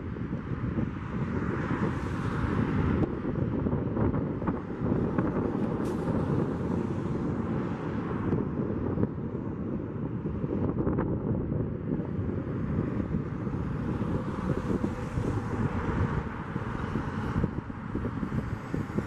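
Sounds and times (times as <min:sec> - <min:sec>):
airplane engine noise: 0:00.0 - 0:19.0
wind buffeting microphone: 0:00.0 - 0:19.0.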